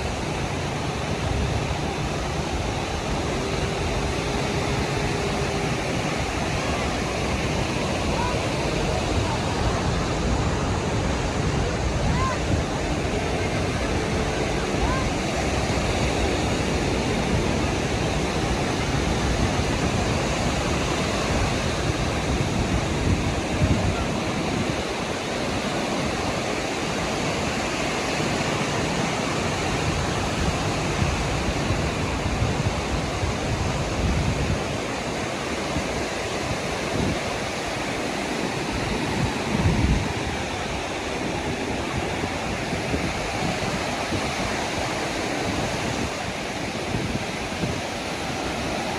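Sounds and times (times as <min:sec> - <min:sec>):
surf washing onto beach: 0:00.0 - 0:48.9
wind buffeting microphone: 0:00.0 - 0:48.9.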